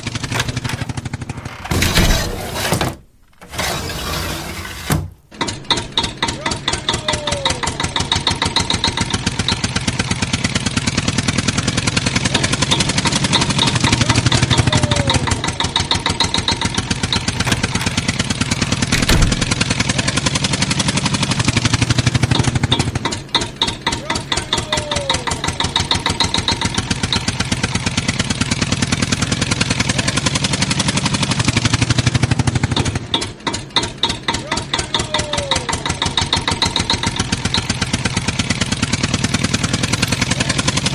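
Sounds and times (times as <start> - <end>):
tractor engine putt-putt: 0.0 - 3.9, 5.1 - 40.9.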